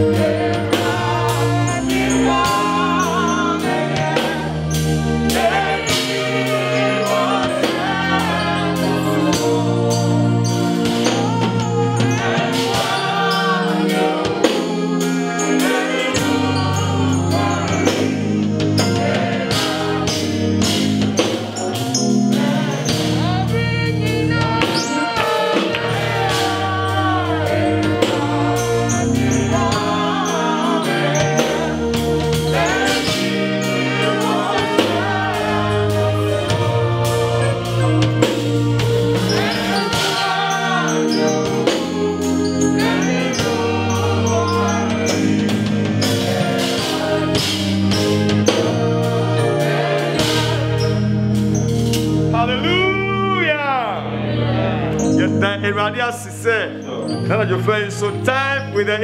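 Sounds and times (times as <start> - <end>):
band playing: 0.0 - 59.0
gospel singers: 0.0 - 59.0.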